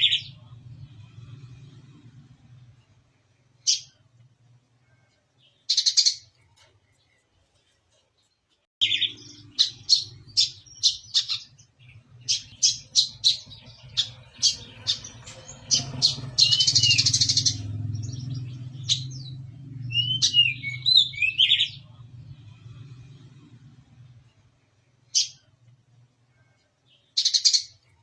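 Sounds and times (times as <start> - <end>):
bird chirps and trills: 0.0 - 4.2, 4.8 - 25.6, 26.3 - 28.0
steady low hum: 0.0 - 5.4, 9.0 - 26.8.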